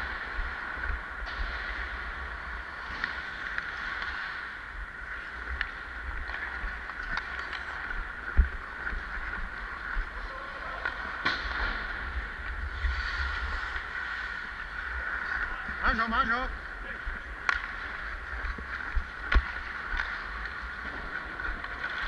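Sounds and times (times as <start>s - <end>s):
skates scraping on ice: 0.1s - 22.0s.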